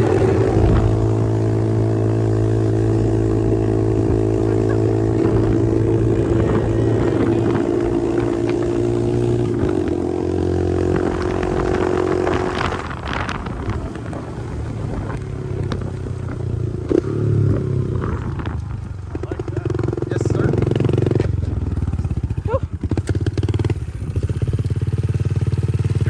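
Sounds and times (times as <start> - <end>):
pit bike engine running: 0.0 - 26.0.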